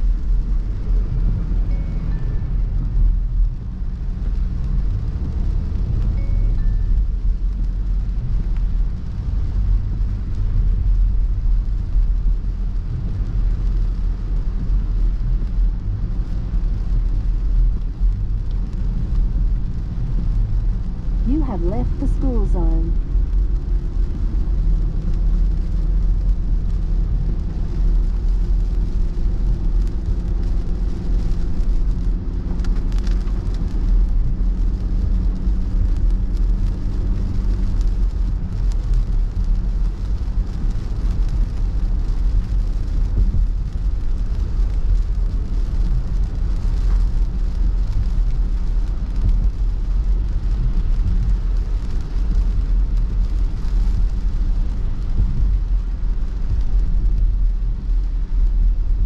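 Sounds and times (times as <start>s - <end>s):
engine hum: 0.0s - 59.0s
rain on windscreen: 0.0s - 59.0s
road and engine rumble: 0.0s - 59.0s.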